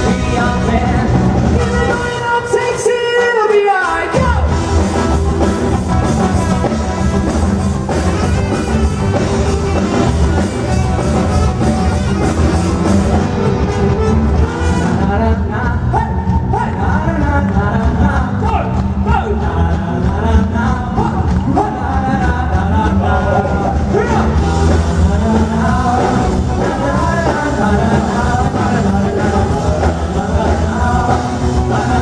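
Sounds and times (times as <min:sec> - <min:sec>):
person singing: 0:00.0 - 0:04.6, 0:06.0 - 0:32.0
live rock band playing: 0:00.0 - 0:32.0.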